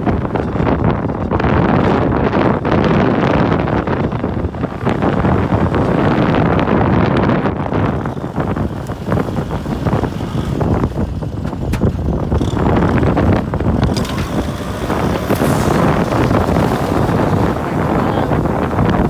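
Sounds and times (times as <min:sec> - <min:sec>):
tractor diesel engine running: 0:00.0 - 0:19.0
wind buffeting microphone: 0:00.0 - 0:19.0.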